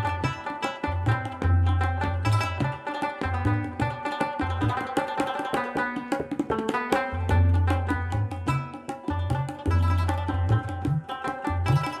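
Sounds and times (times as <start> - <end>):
background music with drum rhythm: 0.0 - 12.0.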